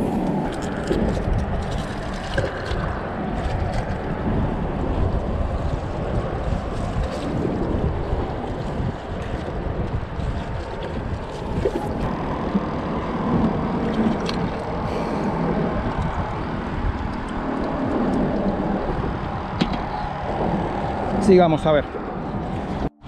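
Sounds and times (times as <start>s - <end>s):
wind rumbling on the microphone: 0.0s - 23.0s.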